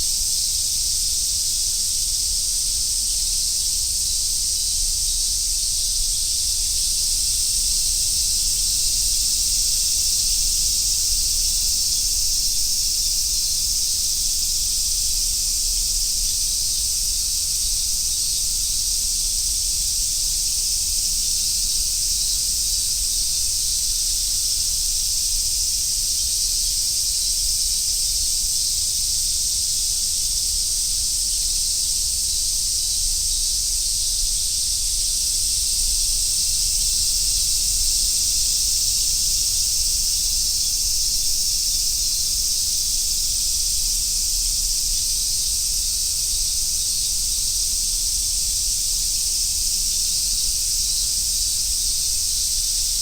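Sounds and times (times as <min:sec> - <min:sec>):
cicadas chorusing: 0:00.0 - 0:53.0.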